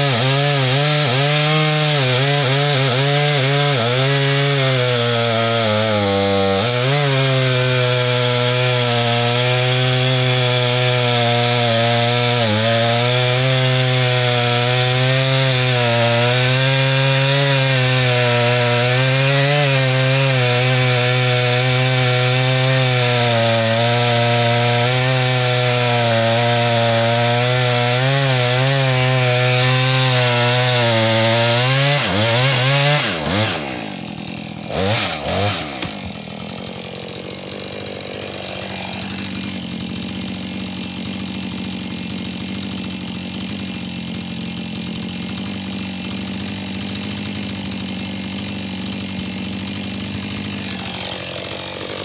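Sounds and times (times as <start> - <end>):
chainsaw cutting a log: 0.0 - 52.0.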